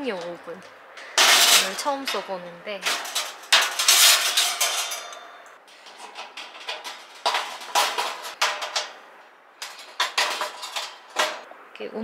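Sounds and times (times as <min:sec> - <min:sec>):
metal parts clinking and rattling: 0:01.0 - 0:09.0, 0:09.6 - 0:11.5.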